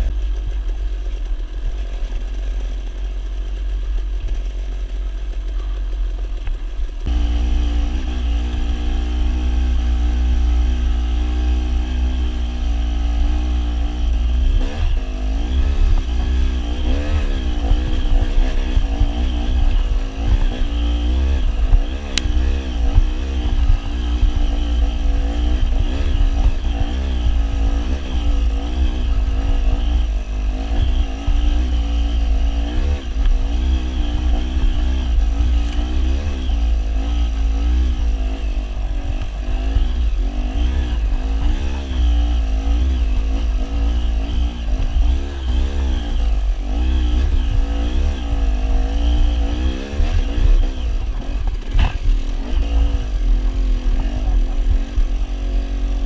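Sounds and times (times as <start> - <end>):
dirt bike engine revving: 7.0 - 56.0.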